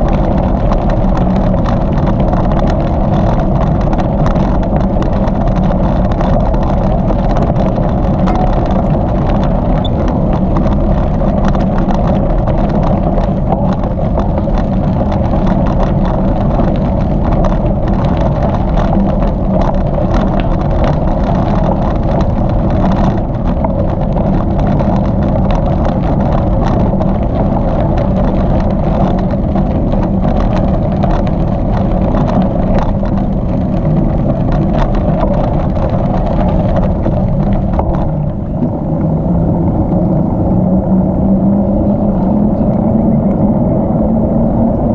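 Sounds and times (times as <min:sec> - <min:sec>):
bicycle tyre noise on trail: 0:00.0 - 0:44.9
wind buffeting microphone: 0:00.0 - 0:44.9.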